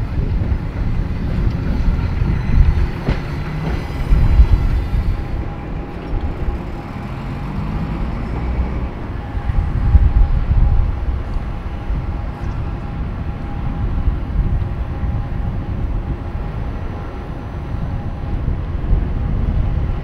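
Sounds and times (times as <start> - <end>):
low rumble: 0.0 - 20.0
tram electrical hum: 0.0 - 20.0.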